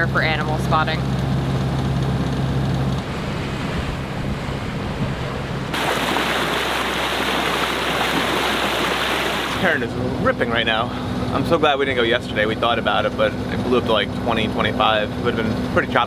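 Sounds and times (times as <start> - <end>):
boat engine hum: 0.0 - 16.0
water rushing along hull: 0.0 - 16.0.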